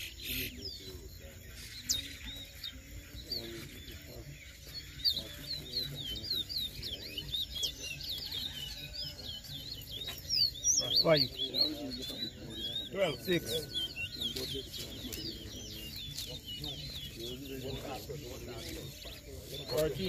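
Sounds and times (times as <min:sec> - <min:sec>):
finches chirping: 0:00.0 - 0:20.0.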